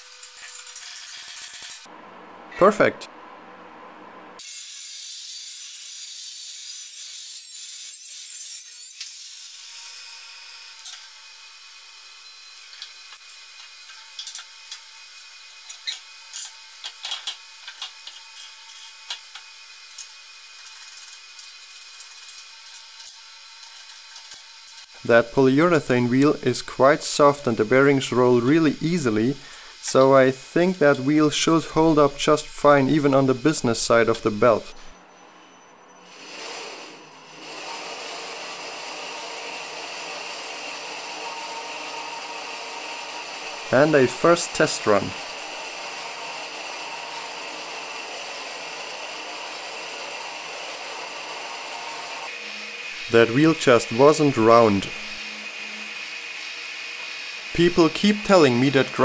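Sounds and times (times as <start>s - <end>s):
belt grinder running: 0.0s - 1.9s, 4.4s - 34.9s, 36.2s - 59.0s.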